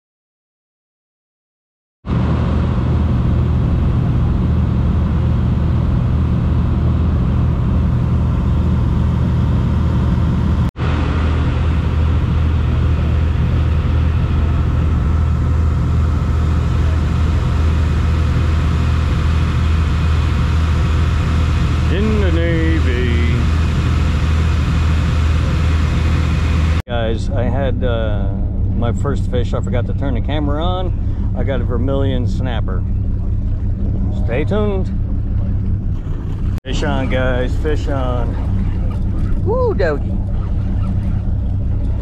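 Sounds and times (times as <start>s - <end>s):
boat engines droning: 2.1s - 42.0s
rush of boat wake: 2.1s - 42.0s.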